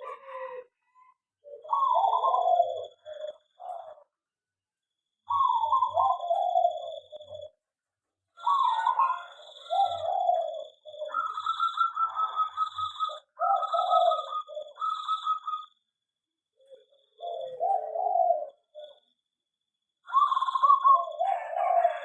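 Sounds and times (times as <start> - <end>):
doves cooing: 0.0 - 4.2, 5.3 - 7.6, 8.4 - 15.8, 16.6 - 19.2, 20.0 - 22.0.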